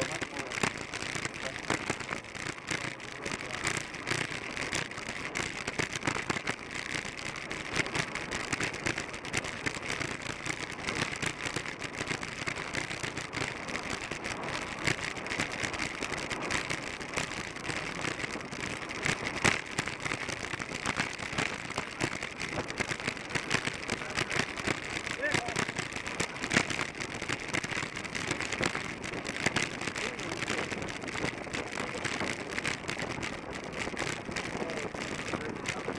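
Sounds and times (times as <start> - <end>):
wind noise on microphone: 0.0 - 35.9.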